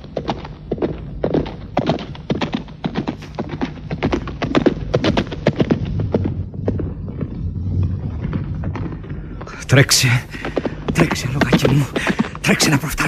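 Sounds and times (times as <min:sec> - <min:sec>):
horse galloping hoofbeats: 0:00.0 - 0:13.0.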